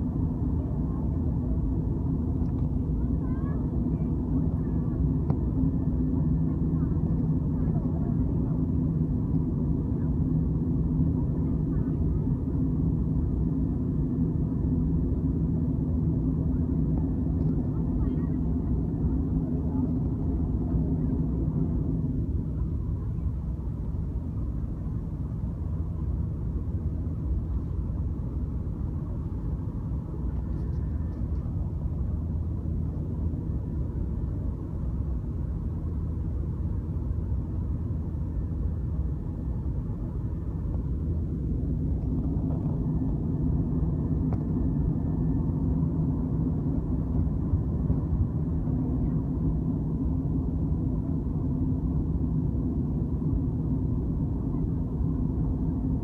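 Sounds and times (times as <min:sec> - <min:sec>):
jet engines droning: 0:00.0 - 0:56.0.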